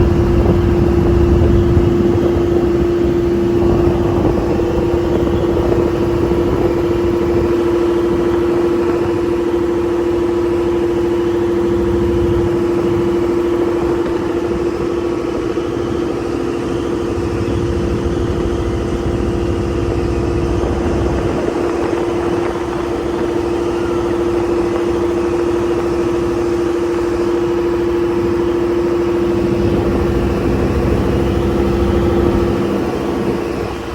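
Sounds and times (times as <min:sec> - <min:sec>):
motorboat engine running: 0:00.0 - 0:33.9.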